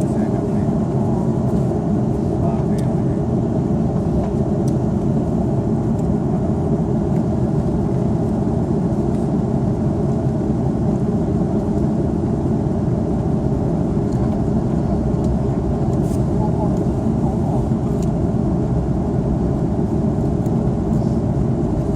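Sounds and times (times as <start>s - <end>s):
airplane cabin engine drone: 0.0s - 21.9s.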